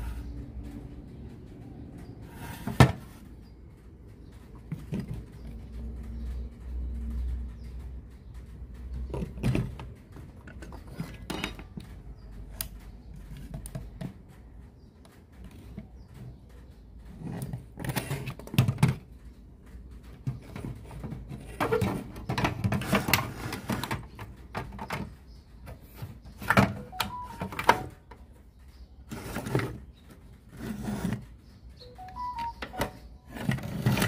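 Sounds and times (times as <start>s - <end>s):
knocks and clicks: 0.2s - 30.4s, 31.2s - 34.0s.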